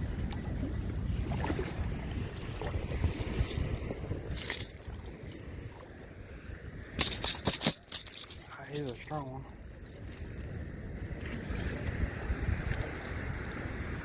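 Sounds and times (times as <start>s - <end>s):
flowing water: 0.0s - 14.0s
wind rumbling on microphone: 0.0s - 14.0s.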